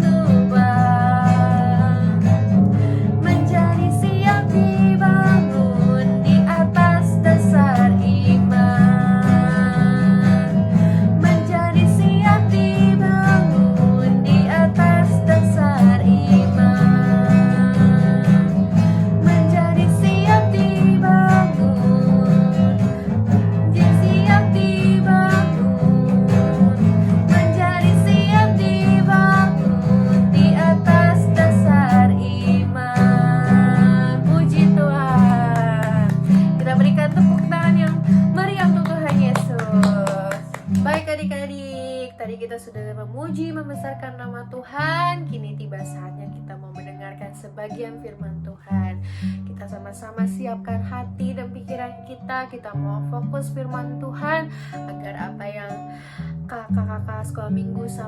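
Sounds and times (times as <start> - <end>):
worship song with acoustic guitar: 0.0 - 58.0.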